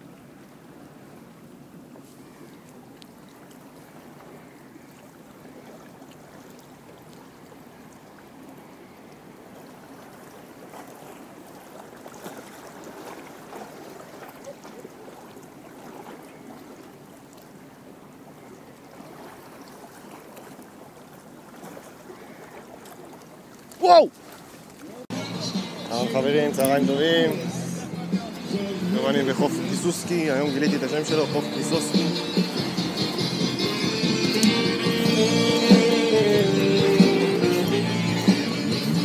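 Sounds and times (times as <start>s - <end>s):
small waves lapping at shore: 0.0s - 39.0s.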